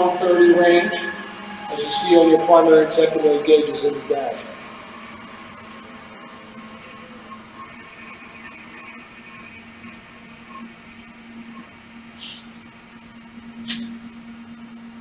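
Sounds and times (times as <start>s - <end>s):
compressor low hum: 0.0s - 15.0s.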